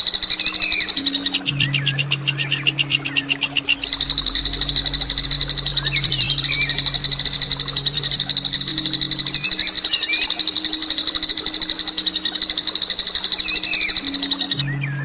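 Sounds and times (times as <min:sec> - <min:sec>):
songbird harsh rolling trill: 0:00.0 - 0:14.8
soft bird chirps: 0:00.0 - 0:15.0
steady low hum: 0:00.0 - 0:15.0.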